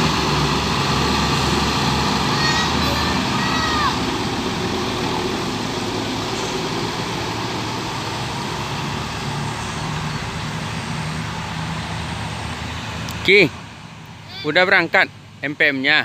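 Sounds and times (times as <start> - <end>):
diesel bus engine running: 0.0 - 16.0
road and traffic noise: 0.0 - 16.0.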